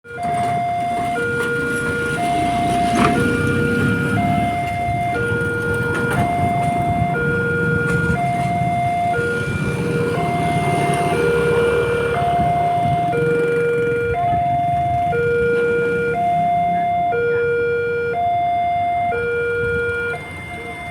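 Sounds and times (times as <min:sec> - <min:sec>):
road traffic rumble: 0:00.0 - 0:20.9
level crossing two-tone alarm: 0:00.1 - 0:20.9.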